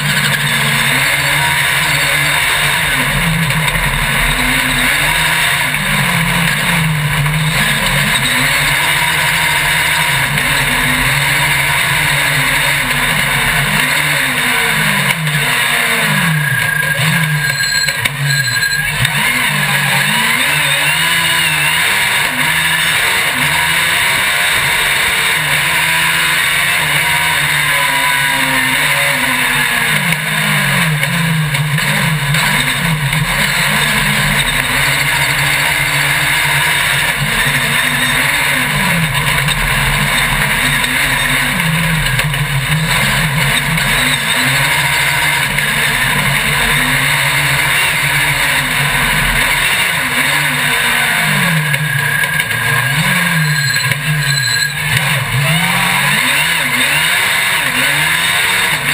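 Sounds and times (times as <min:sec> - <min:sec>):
racing engine accelerating: 0:00.0 - 0:58.9.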